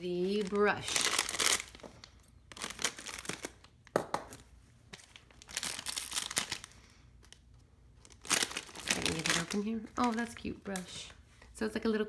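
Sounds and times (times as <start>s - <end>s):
foil packet crinkling: 0.0s - 4.0s, 5.0s - 10.8s.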